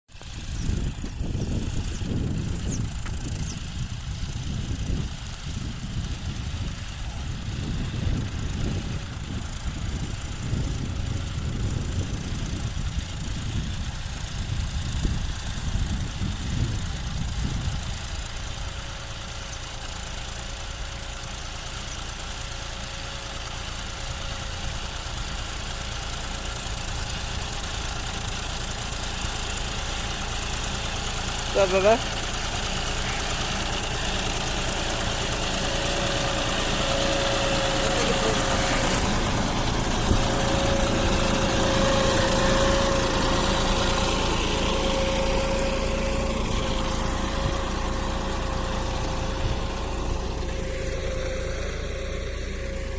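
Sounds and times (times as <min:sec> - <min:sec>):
tractor diesel engine running: 0:00.1 - 0:52.9.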